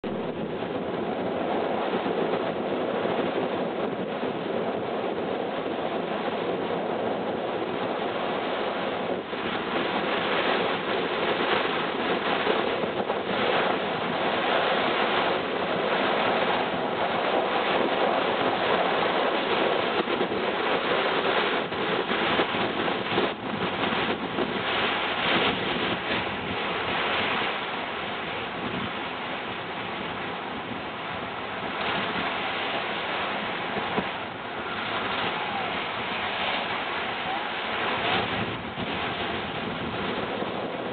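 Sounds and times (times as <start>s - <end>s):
surf rushing: 0.0s - 40.9s
wind gusting across microphone: 0.0s - 40.9s.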